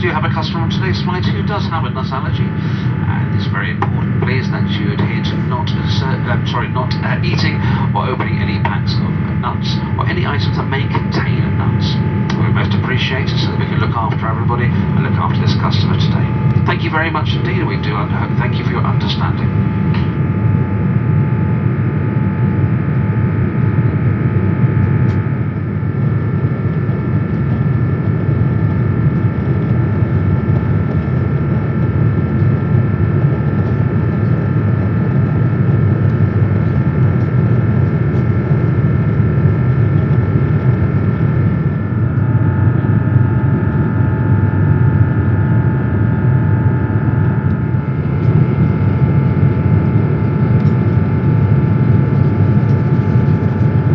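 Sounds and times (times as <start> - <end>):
airplane cabin noise: 0.0 - 53.9.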